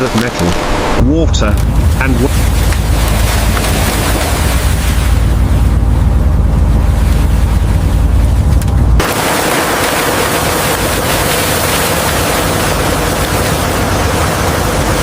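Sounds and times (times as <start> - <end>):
deep boat rumble: 0.0 - 15.0.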